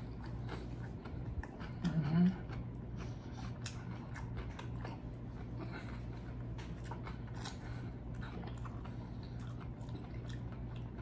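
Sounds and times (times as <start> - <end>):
chewing and mouth smacks: 0.0 - 11.0
low steady hum: 0.0 - 11.0.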